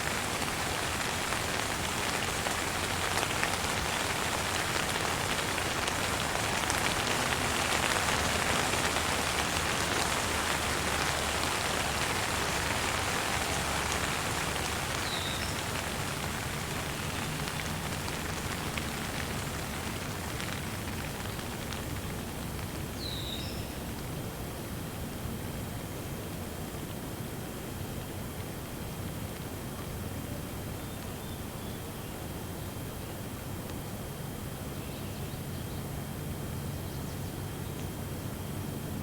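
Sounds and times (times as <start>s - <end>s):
gentle rain falling: 0.0s - 39.0s.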